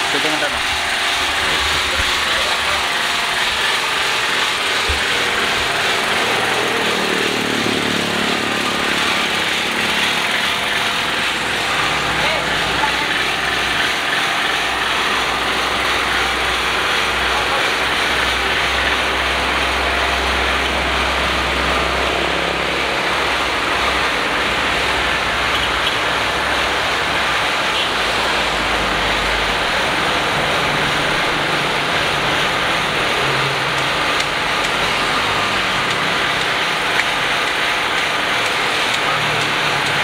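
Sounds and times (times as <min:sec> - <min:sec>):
portable generator running: 0:00.0 - 0:40.0.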